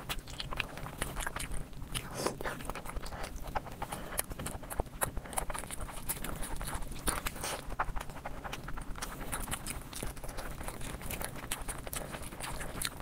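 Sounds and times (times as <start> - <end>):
close chewing with wet clicks: 0.0 - 13.0.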